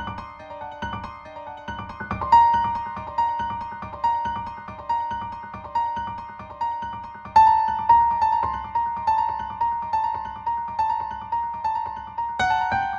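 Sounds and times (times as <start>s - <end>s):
piano music: 0.0s - 12.9s.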